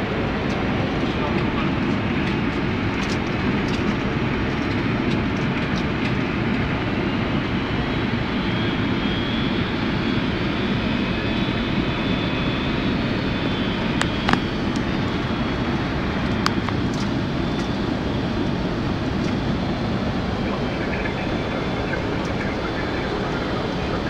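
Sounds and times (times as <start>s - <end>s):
engine and airflow noise: 0.0s - 24.0s.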